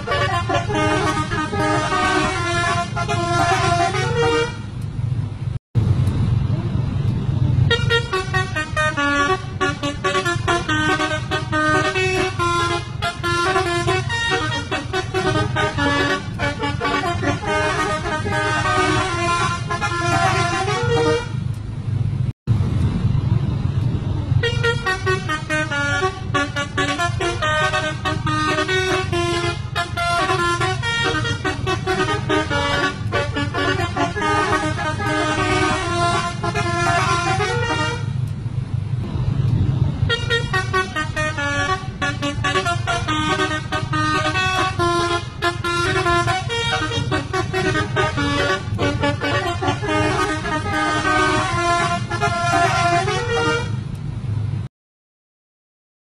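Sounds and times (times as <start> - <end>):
musical air horns playing melodies: 0.0 - 4.7, 7.7 - 21.5, 24.4 - 38.2, 40.1 - 53.8
steady low rumble: 0.0 - 54.7.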